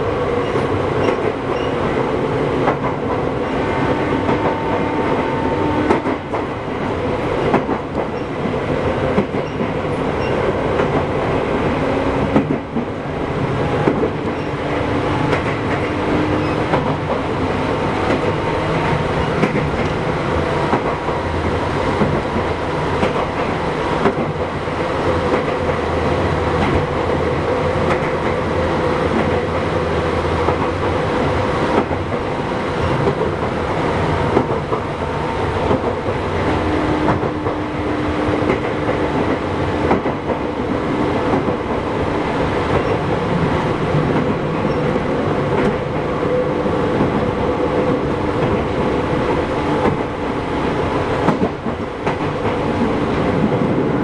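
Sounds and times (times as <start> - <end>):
electric train hum: 0.0 - 54.0
train wheels rumbling on rail: 0.0 - 54.0.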